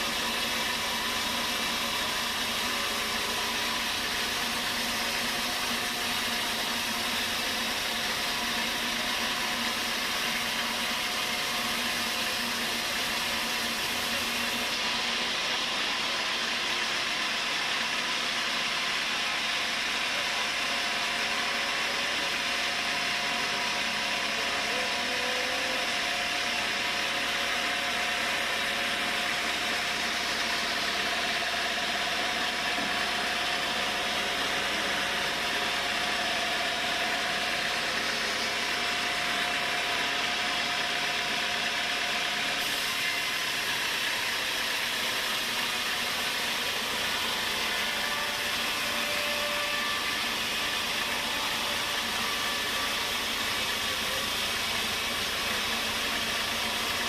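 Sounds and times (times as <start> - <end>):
sawmill sawing log: 0.0 - 57.0.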